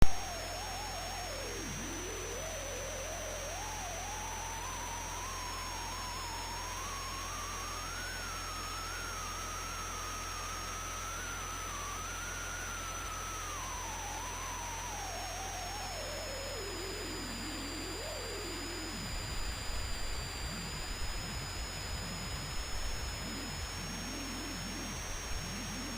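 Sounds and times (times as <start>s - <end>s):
thin high whine: 0.0s - 25.9s
wavering electronic tone: 0.0s - 25.9s.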